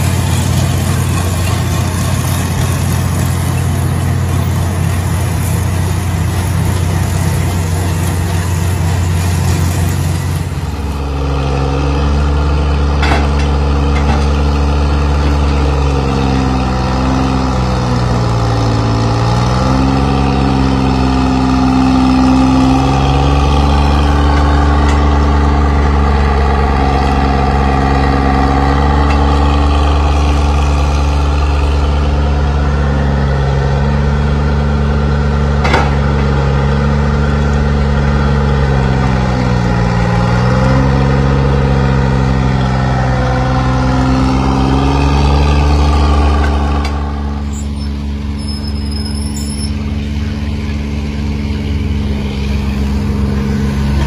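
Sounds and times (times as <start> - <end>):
power shovel engine running: 0.0 - 54.0.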